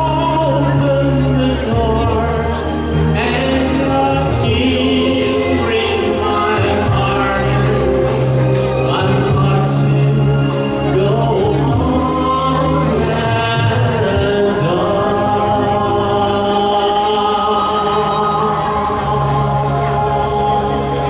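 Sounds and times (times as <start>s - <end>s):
backing accompaniment: 0.0s - 21.0s
man singing a slow ballad: 0.0s - 21.0s.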